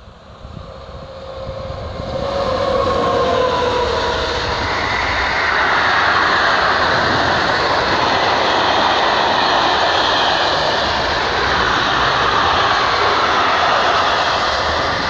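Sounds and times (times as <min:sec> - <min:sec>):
electric locomotive motor whine: 0:00.0 - 0:15.0
train rolling on rails: 0:00.0 - 0:15.0.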